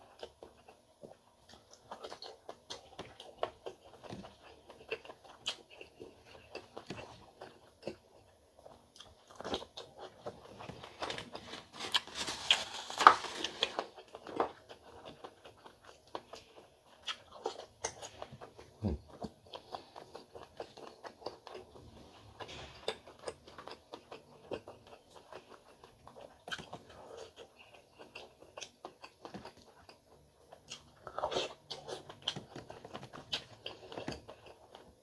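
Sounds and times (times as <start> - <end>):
person chewing: 0.0 - 35.0.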